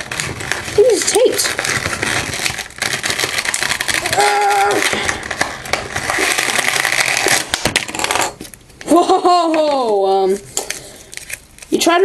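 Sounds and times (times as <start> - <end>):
plastic packaging crinkling: 0.0 - 8.8, 9.6 - 12.0.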